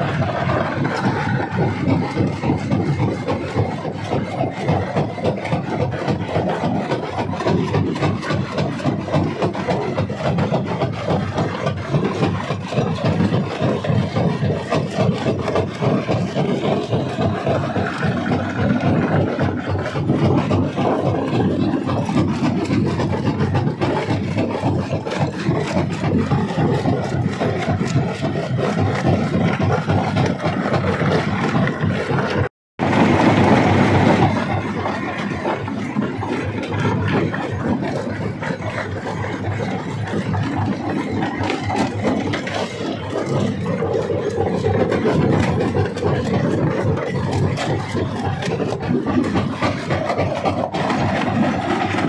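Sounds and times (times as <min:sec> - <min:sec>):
stone crusher rumbling: 0:00.0 - 0:52.0.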